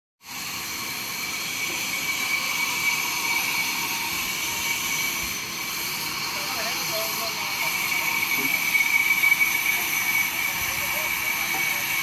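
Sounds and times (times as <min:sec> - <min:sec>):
sawmill saw whining: 0:00.2 - 0:12.0.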